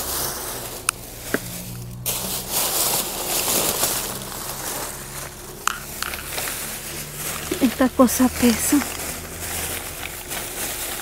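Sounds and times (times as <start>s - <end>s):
plastic bags rustling: 0.0s - 11.0s
low hum: 0.1s - 11.0s.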